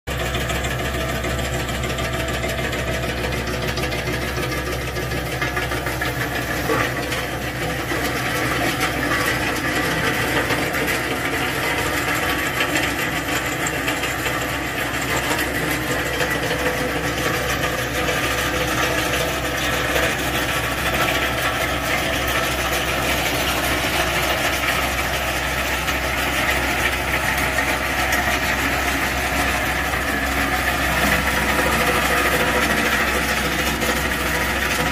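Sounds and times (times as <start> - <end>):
threshing machine drone: 0.1 - 34.9.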